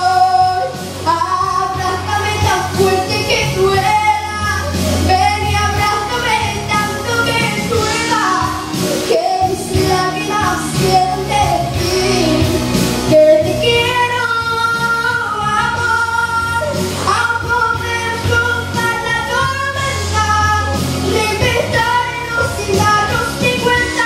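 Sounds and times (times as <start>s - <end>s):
live pop song: 0.0s - 24.0s
piano accompaniment: 0.0s - 24.0s.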